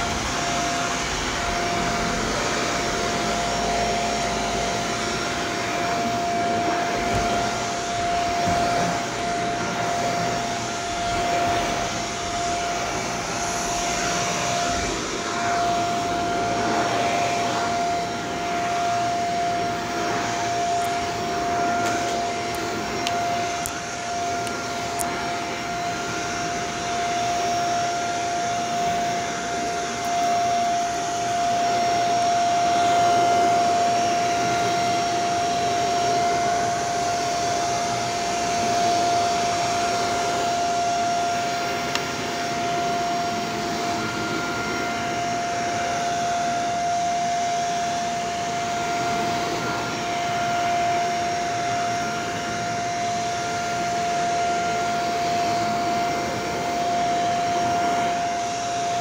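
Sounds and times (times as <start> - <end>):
vacuum cleaner whine: 0.0 - 59.0.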